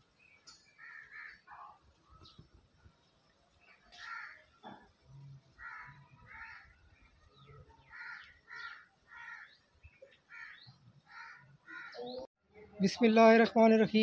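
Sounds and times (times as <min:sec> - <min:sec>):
birds calling faintly: 0:00.0 - 0:13.1.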